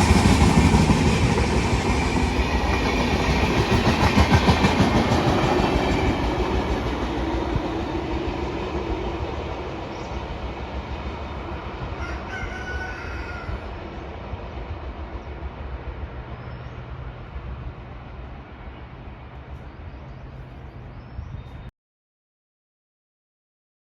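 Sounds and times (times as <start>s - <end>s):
train passing on track: 0.0s - 21.6s.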